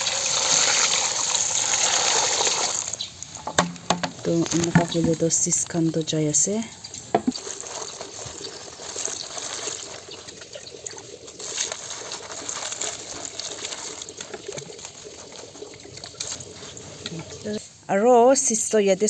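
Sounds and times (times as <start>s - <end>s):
water running and splashing: 0.0s - 17.6s.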